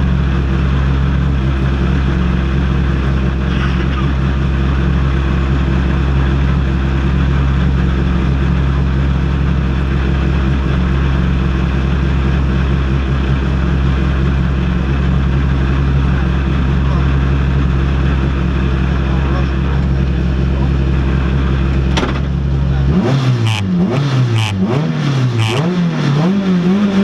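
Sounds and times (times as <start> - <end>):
rally car engine idling: 0.0 - 27.0.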